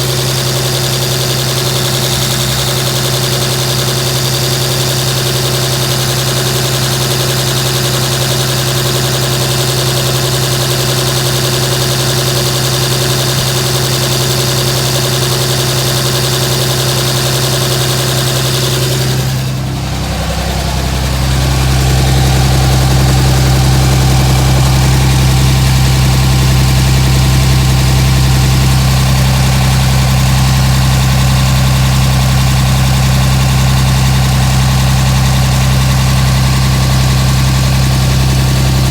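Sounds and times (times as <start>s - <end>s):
diesel engine rough idle: 0.0s - 38.9s.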